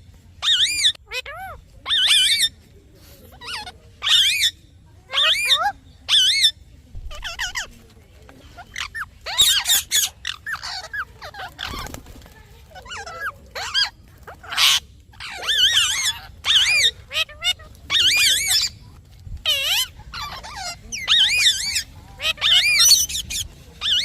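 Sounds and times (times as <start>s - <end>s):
parrot warbling chirps: 0.4s - 2.5s, 3.4s - 7.7s, 8.6s - 11.9s, 12.8s - 18.8s, 19.4s - 24.0s.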